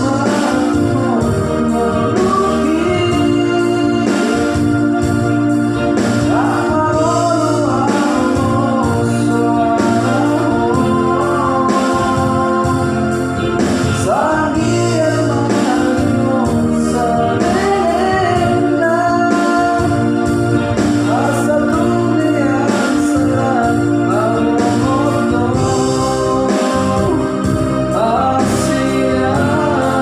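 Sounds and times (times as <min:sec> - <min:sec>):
electronic keyboard chords: 0:00.0 - 0:30.0
person singing slow song: 0:00.0 - 0:30.0
steady bass: 0:00.0 - 0:30.0.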